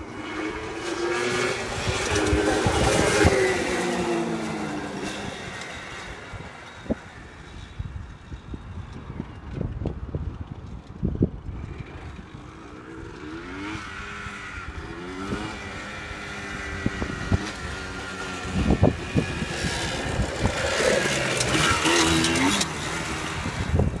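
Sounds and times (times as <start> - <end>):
two-stroke engine revving: 0.0 - 7.0, 11.6 - 24.0
wind buffeting microphone: 0.6 - 12.5, 13.5 - 24.0.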